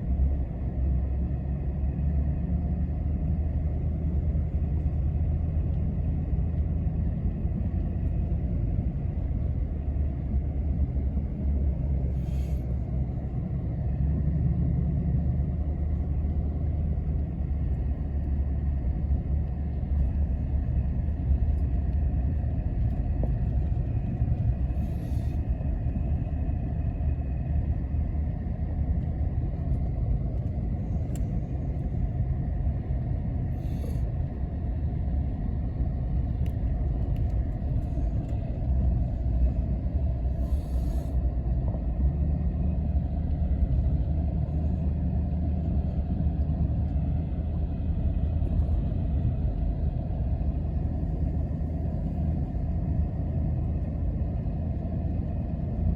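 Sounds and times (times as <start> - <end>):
quad engine rumble: 0.0 - 55.9.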